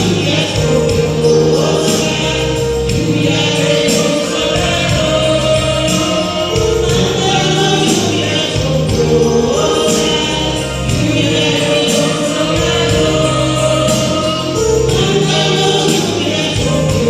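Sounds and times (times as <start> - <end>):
group singing a hymn: 0.0 - 17.0
instrumental accompaniment: 0.0 - 17.0.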